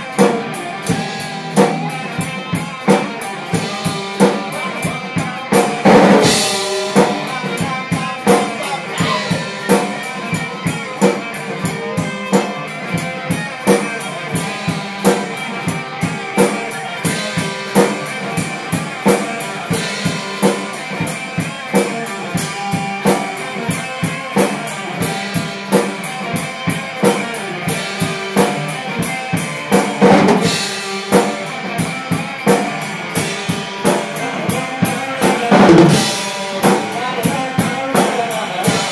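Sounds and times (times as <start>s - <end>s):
drum kit steady beat: 0.0s - 38.9s
guitar: 0.0s - 38.9s.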